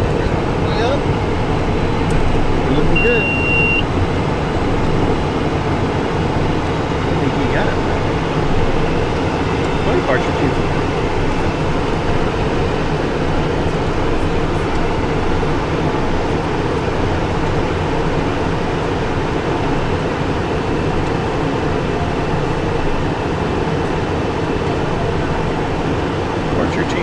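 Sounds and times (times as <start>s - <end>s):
jet cockpit air and engine rush: 0.0s - 27.0s.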